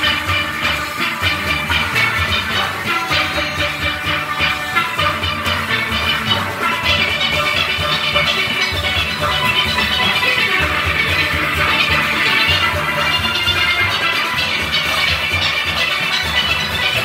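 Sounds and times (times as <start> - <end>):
steel orchestra playing: 0.0 - 17.0.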